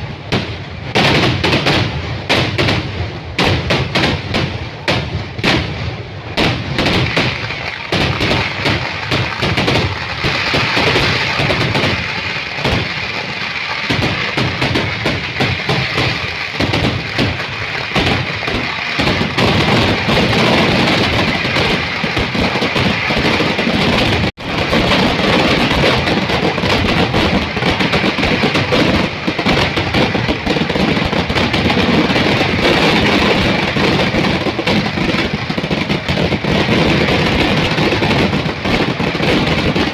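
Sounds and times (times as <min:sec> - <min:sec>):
firecracker blasts and crackling: 0:00.0 - 0:39.9.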